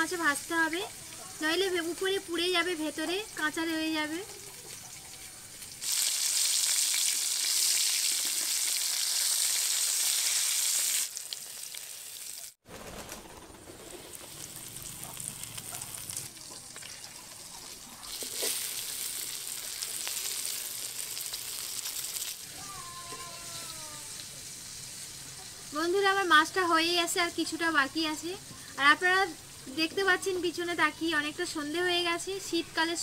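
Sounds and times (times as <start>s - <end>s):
fish sizzling in hot oil: 0.0s - 12.6s, 14.1s - 32.9s.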